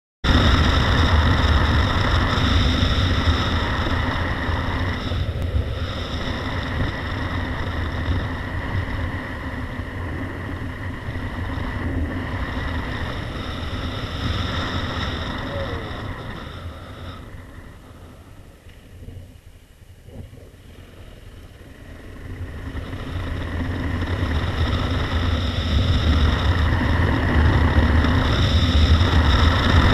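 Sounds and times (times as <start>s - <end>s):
motorcycle engine rumble: 0.2s - 29.9s
wind noise on microphone: 0.2s - 29.9s.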